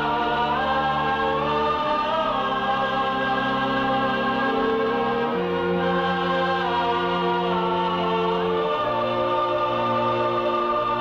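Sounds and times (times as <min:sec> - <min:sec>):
slow orchestral music with voices: 0:00.0 - 0:11.0.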